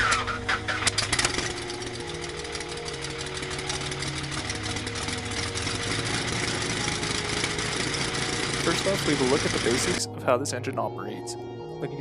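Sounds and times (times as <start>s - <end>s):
aircraft engine running: 0.0s - 10.6s.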